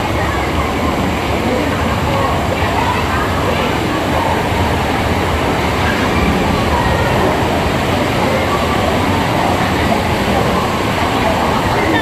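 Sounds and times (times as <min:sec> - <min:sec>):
faint crowd voices: 0:00.0 - 0:12.0
running water rushing: 0:00.0 - 0:12.0.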